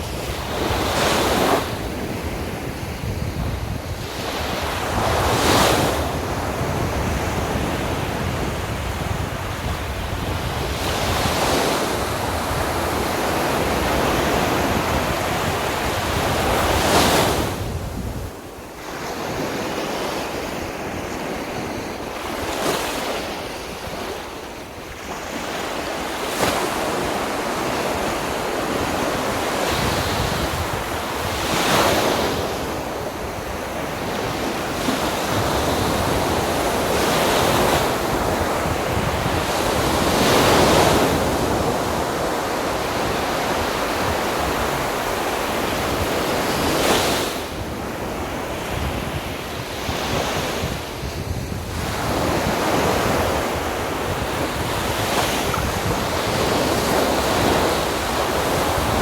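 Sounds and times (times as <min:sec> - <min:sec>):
sea waves breaking on beach: 0:00.0 - 0:59.0
wind buffeting microphone: 0:00.0 - 0:59.0.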